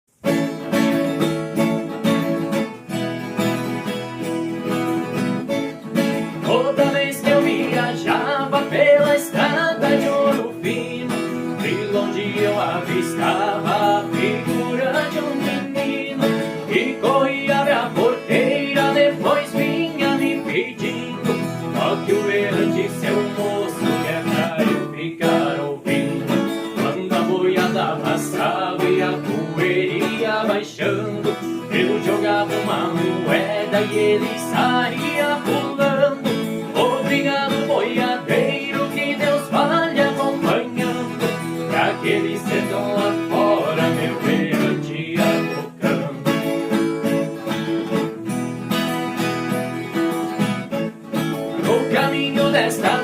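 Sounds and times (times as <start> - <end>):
acoustic guitar accompaniment: 0.1 - 53.0
plucked string melody: 0.1 - 53.0.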